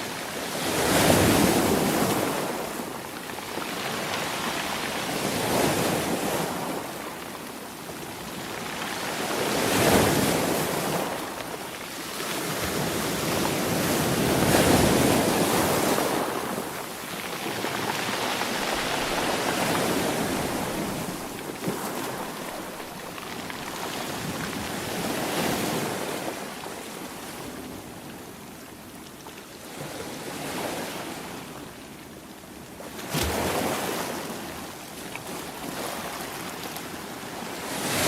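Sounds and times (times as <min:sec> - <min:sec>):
sea waves breaking on shore: 0:00.0 - 0:32.0, 0:32.6 - 0:38.0.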